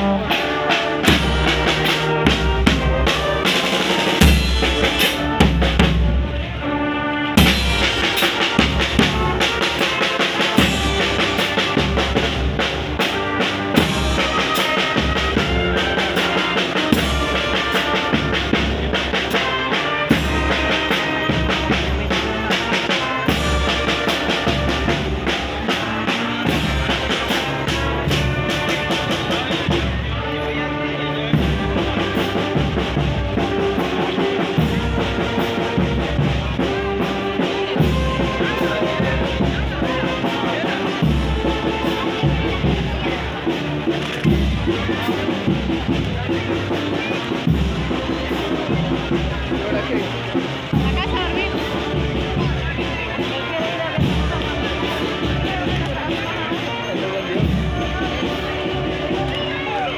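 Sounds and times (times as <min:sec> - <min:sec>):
marching brass band playing: 0:00.0 - 0:59.9.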